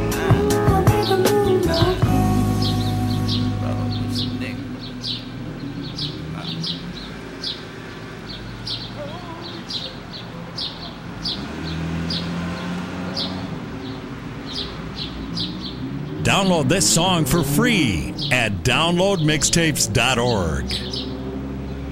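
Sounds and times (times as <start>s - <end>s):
birds chirping: 0.5s - 21.9s.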